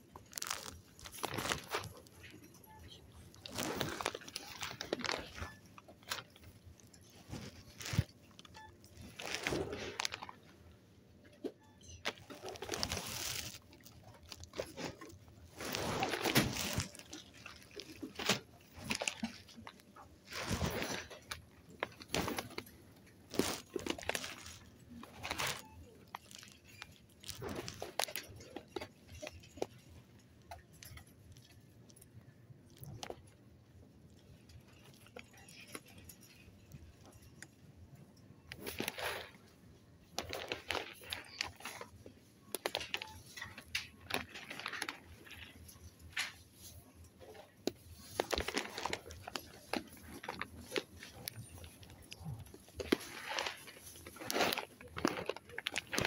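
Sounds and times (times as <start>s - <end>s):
plastic wrap rustling and crinkling: 0.0s - 10.6s, 11.2s - 37.6s, 38.4s - 56.0s.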